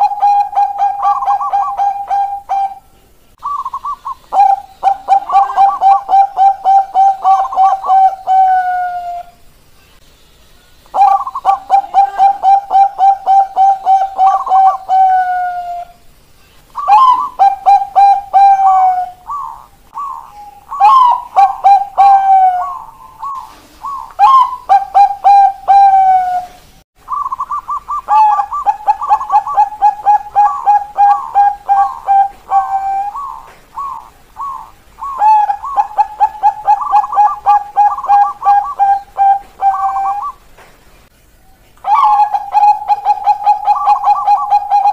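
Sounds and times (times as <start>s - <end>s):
doves cooing rapidly: 0.0s - 9.3s, 11.0s - 16.0s, 16.8s - 40.5s, 41.8s - 44.9s.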